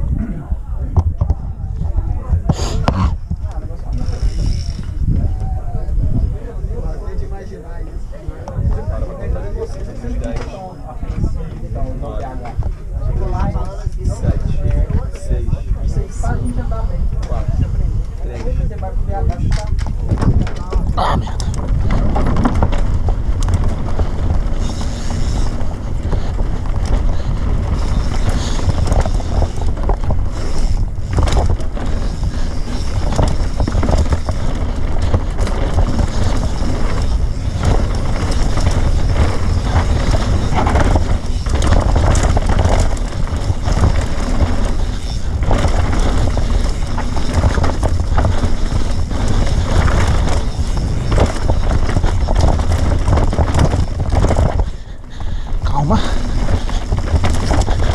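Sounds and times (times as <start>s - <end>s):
rough trail rumble: 0.0s - 57.9s
wind buffeting microphone: 0.0s - 57.9s.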